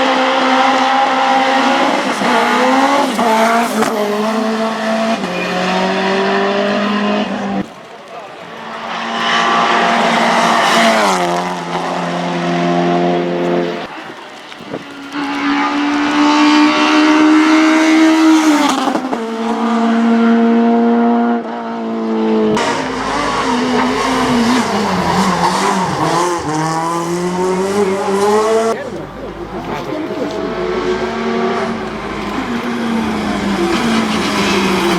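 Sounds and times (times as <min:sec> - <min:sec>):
race car engines at high revs: 0:00.0 - 0:34.9.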